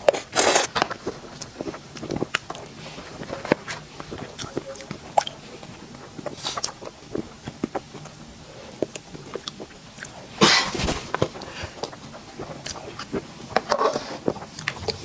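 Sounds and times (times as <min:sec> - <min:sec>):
chewing and mouth clicks: 0:00.9 - 0:10.3, 0:11.3 - 0:15.0.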